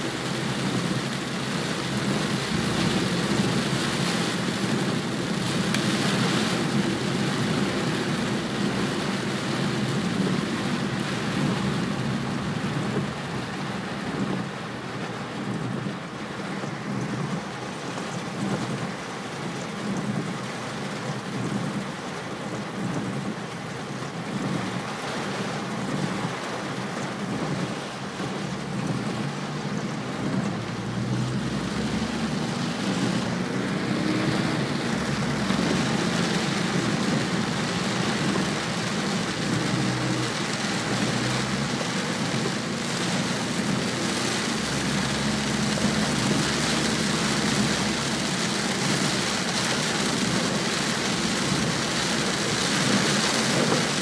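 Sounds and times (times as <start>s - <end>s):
car driving on wet road: 0.0s - 54.0s
heavy rain on car roof: 0.0s - 54.0s.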